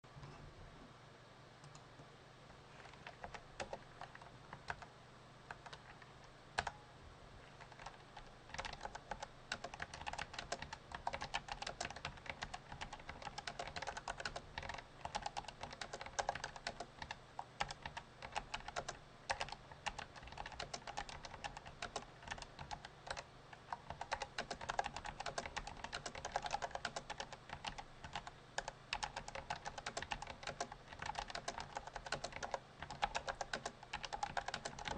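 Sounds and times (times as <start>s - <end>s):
mechanical keyboard typing: 2.8s - 4.9s, 5.5s - 6.8s, 7.6s - 34.9s.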